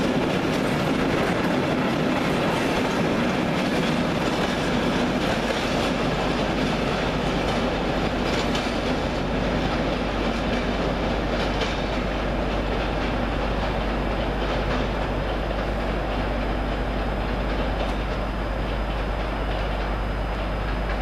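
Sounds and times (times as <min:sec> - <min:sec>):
train wagons rumbling: 0:00.0 - 0:21.0
wheels clicking over rail joints: 0:00.0 - 0:21.0.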